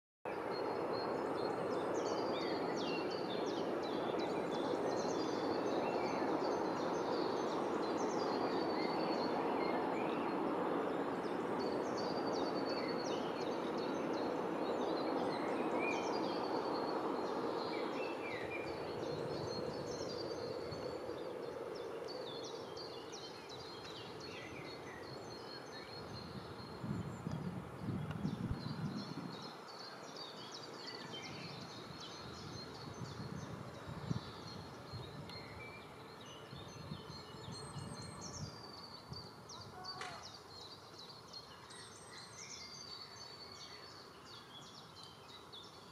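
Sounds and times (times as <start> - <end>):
small birds chirping: 0.4 - 45.9.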